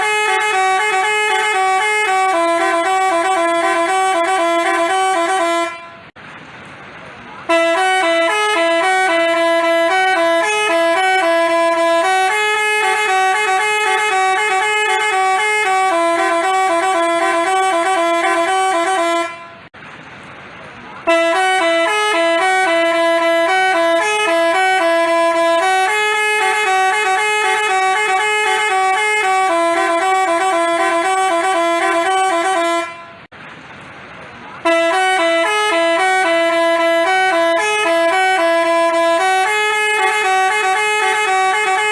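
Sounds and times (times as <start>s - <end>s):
bus horn playing a melody: 0.0s - 6.2s, 7.4s - 19.8s, 21.0s - 33.3s, 34.6s - 41.9s.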